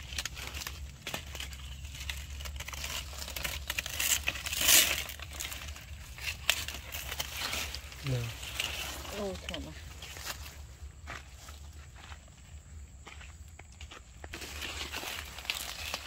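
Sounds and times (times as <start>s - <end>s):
leaves rustling and crinkling: 0.0s - 12.7s, 13.7s - 16.0s.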